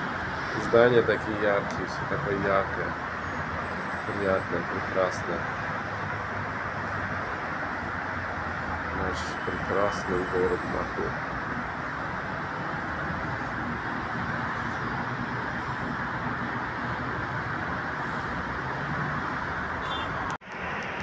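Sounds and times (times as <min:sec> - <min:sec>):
distant city traffic rumble: 0:00.0 - 0:21.0.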